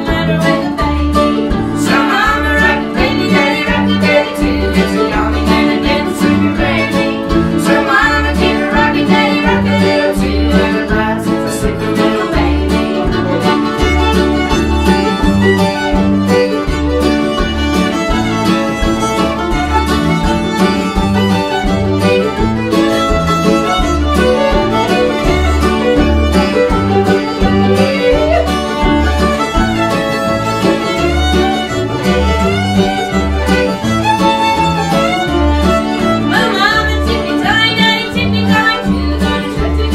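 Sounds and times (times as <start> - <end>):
acoustic guitar: 0.0 - 39.9
fiddle: 0.0 - 39.9
mandolin: 0.0 - 39.9
upright bass plucking: 0.0 - 39.9.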